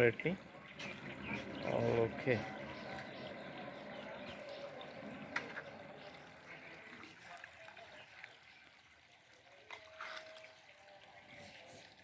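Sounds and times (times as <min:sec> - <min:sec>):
faint water trickling: 0:00.0 - 0:12.0.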